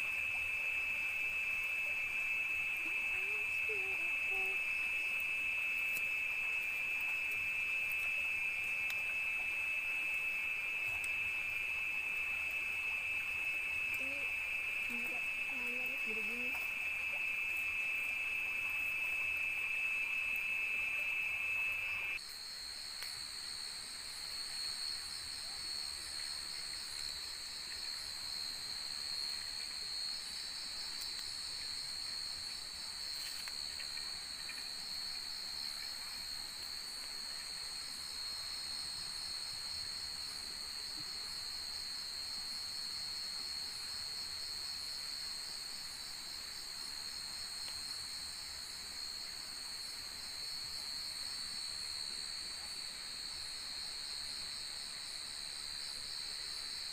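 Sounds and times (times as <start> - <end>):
crickets and insects trilling: 0.0 - 56.9.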